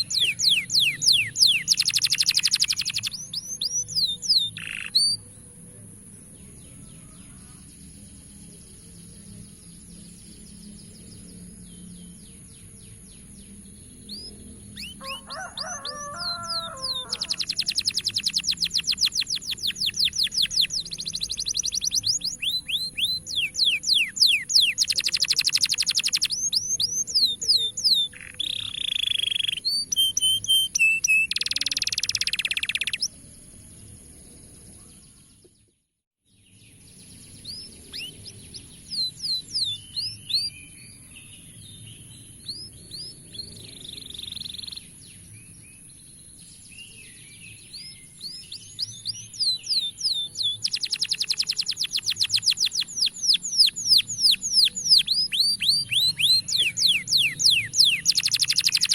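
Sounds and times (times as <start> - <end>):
canary singing trills and chirps: 0.0 - 5.6, 9.9 - 33.2, 37.4 - 45.6, 46.9 - 58.9.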